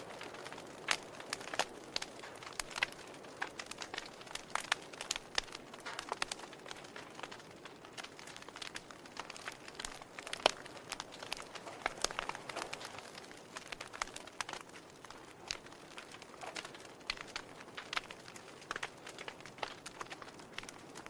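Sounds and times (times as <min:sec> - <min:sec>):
fire hissing: 0:00.0 - 0:20.8
wood fire crackling and popping: 0:00.0 - 0:21.0.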